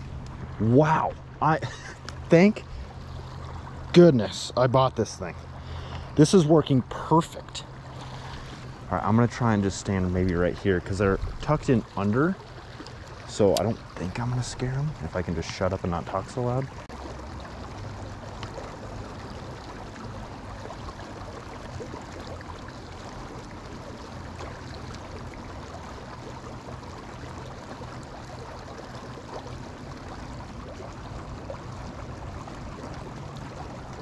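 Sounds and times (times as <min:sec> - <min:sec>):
creek running over rocks: 0:00.0 - 0:34.0.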